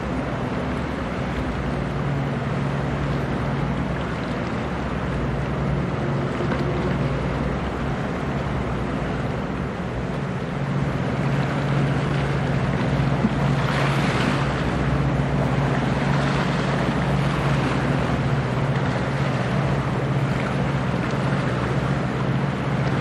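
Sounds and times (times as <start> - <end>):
boat engine drone: 0.0 - 23.0
churning water: 0.0 - 23.0.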